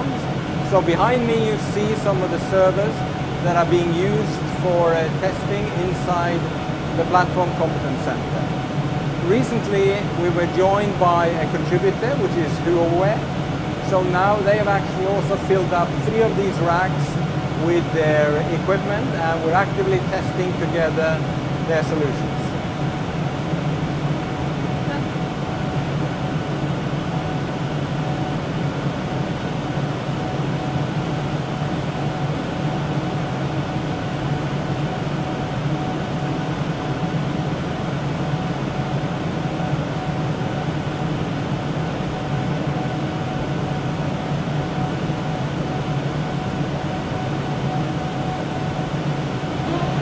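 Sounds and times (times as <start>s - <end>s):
server room fans drone: 0.0s - 50.0s.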